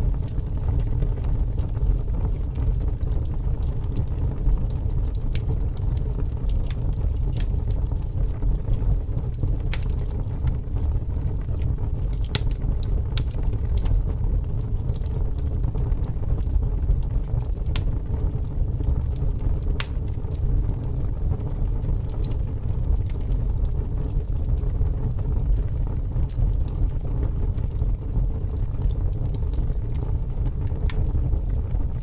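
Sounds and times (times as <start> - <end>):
fire burning rumble: 0.0 - 32.0
fire crackles and pops: 0.0 - 32.0.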